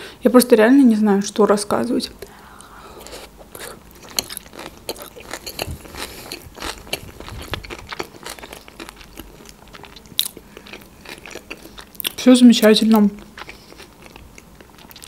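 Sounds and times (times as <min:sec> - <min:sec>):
person chewing crunchy food: 0:02.6 - 0:15.0.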